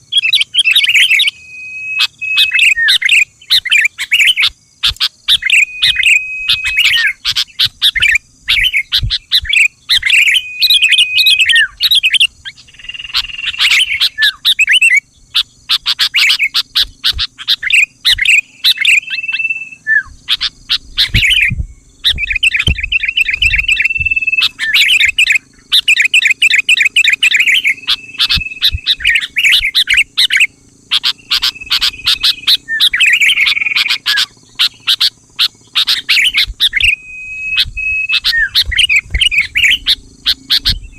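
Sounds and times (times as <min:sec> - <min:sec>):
bird chattering and whistling: 0:00.0 - 0:40.9.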